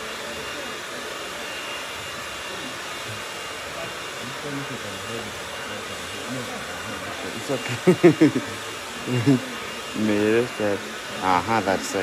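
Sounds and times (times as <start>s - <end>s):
faint voices: 0.0s - 12.0s
hair dryer running: 0.0s - 12.0s.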